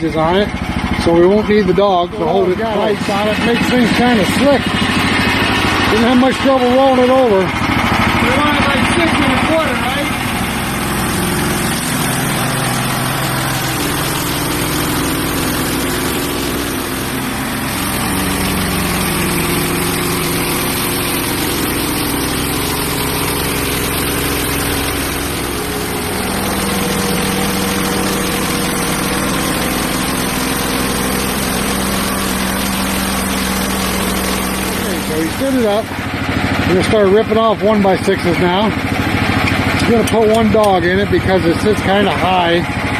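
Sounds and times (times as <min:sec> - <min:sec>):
sawmill gas engine running: 0:00.0 - 0:42.9.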